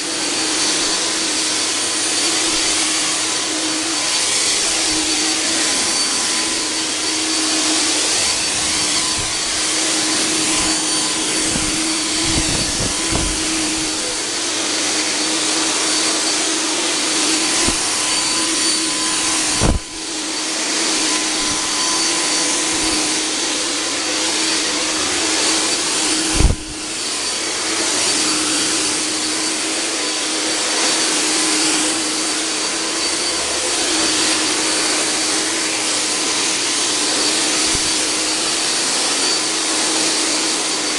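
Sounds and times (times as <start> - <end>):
fog generator blower hissing: 0.0 - 40.9.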